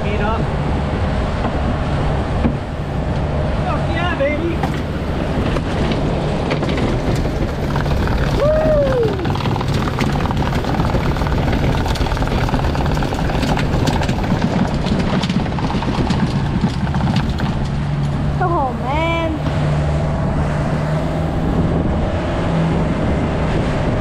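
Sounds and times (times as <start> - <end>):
boat engine running: 0.0 - 24.0
wind and water noise: 0.0 - 24.0.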